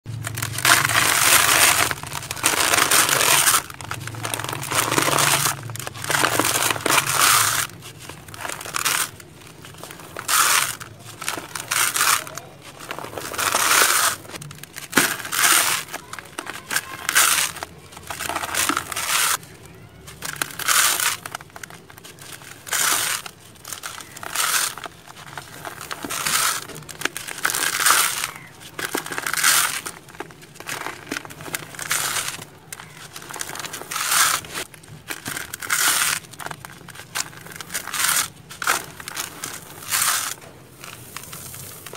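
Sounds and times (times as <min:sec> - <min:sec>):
hands crushing dry gritty squares: 0:00.1 - 0:41.9
grains falling into plastic tub: 0:00.2 - 0:19.4, 0:22.4 - 0:41.9.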